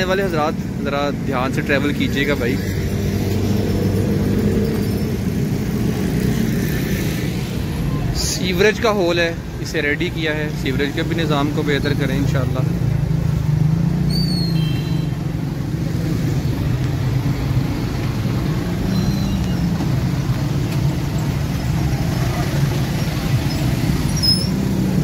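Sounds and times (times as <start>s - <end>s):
traffic engines crawling: 0.0s - 25.0s.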